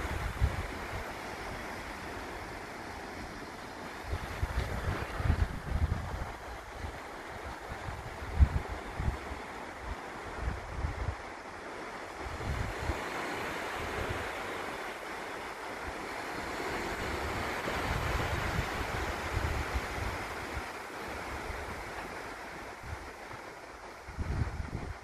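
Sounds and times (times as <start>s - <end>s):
wind buffeting microphone: 0.0s - 2.2s, 3.8s - 11.4s, 12.2s - 14.4s, 16.6s - 25.0s
small waves washing on beach: 0.0s - 25.0s.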